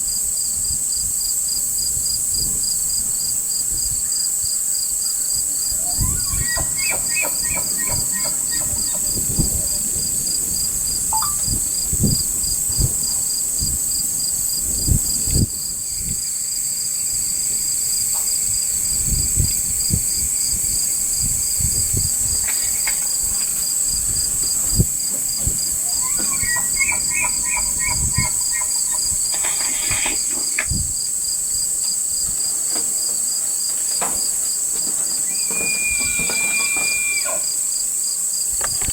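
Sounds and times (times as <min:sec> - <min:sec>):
insects pulsing chirp: 0:00.0 - 0:38.9
insects trilling: 0:00.0 - 0:38.9.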